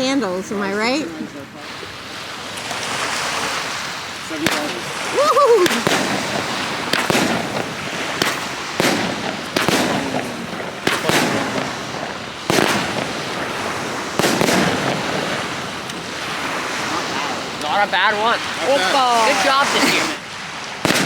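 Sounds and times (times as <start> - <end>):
fireworks bangs: 1.8 - 21.0.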